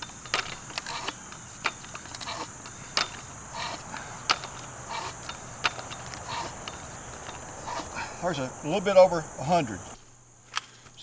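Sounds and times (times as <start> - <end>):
bicycle pump strokes: 0.0 - 10.1.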